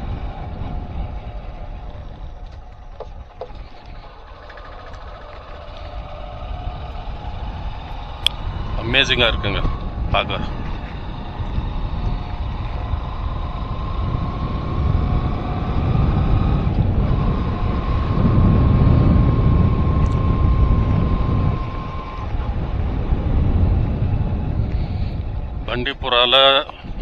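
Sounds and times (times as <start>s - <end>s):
faint drivetrain whine: 0.0s - 27.0s
road vehicle cruising: 0.0s - 27.0s
wind rumble on microphone: 0.0s - 27.0s.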